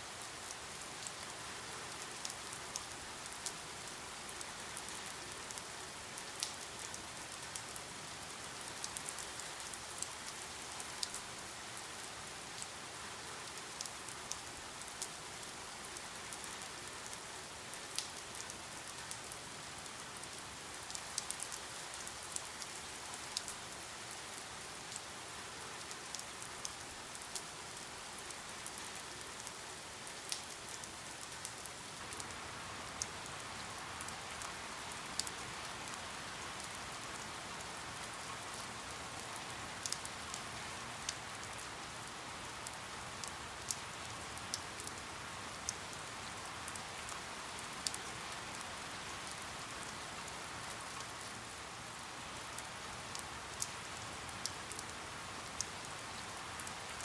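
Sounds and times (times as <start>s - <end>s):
steady rain falling: 0.0s - 57.0s
raindrops pattering on surface: 0.2s - 12.7s, 13.5s - 57.0s.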